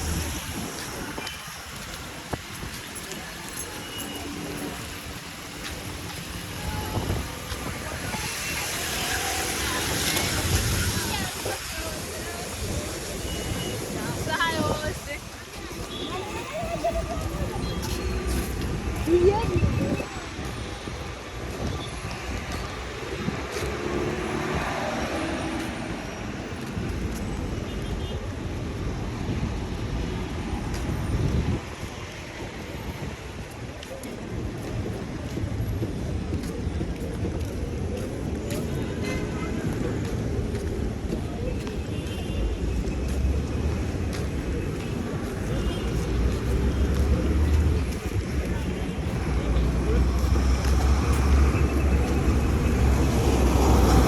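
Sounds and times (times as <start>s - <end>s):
passing motor vehicles: 0.0s - 54.0s.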